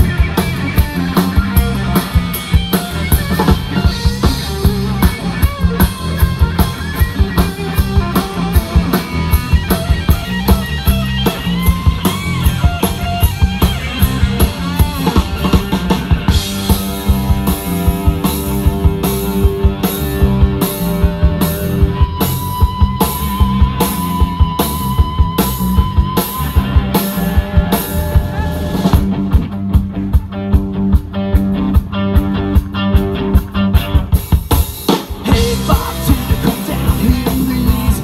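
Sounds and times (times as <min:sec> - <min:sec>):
bass guitar: 0:00.0 - 0:38.0
drum kit: 0:00.0 - 0:38.0
electric guitar: 0:00.0 - 0:38.0.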